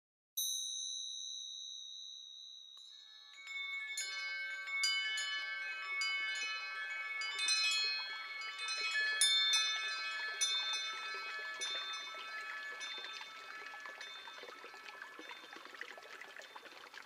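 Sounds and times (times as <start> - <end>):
wind chimes tinkling: 0.4 - 17.0.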